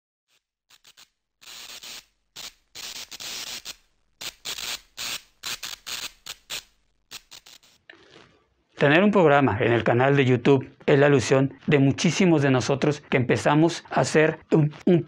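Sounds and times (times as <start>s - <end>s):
tv static hiss and crackles: 0.7s - 7.8s, 9.8s - 15.0s.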